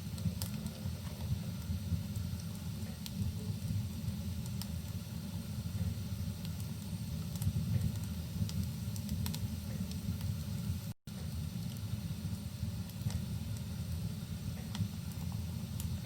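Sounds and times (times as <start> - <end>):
fire crackles and pops: 0.0 - 16.0
fire rumbling: 0.0 - 16.0.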